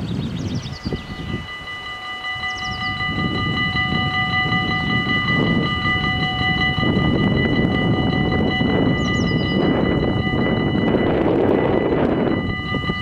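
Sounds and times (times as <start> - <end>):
level crossing warning bells: 0.0 - 13.0.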